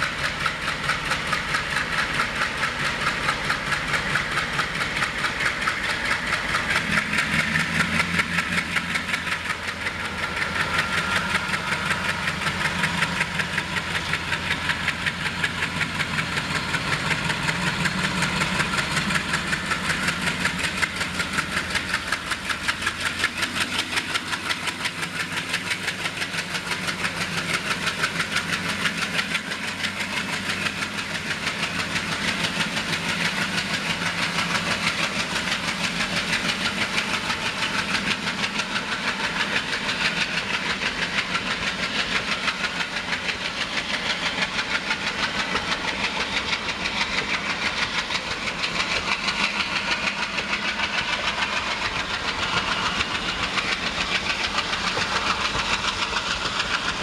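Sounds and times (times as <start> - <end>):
diesel locomotive engine: 0.0 - 57.0
train wheels clattering on rails: 0.0 - 57.0.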